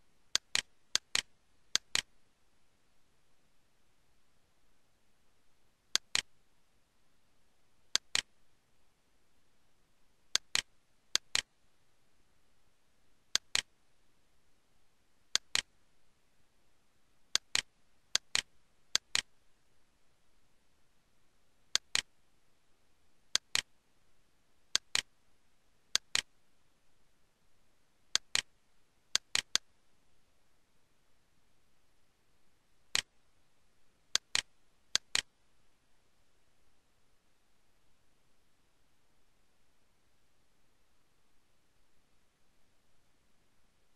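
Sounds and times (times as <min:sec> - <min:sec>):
faint steady hiss: 0:00.0 - 0:43.9.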